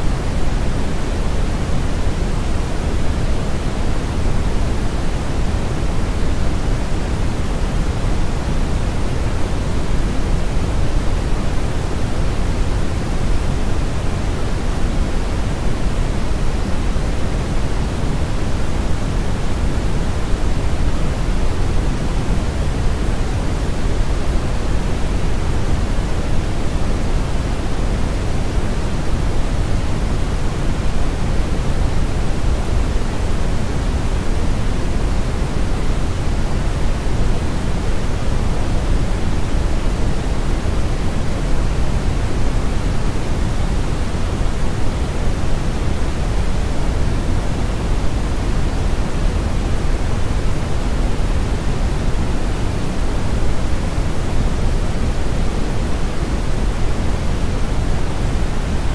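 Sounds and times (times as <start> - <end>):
brown noise: 0.0 - 58.9.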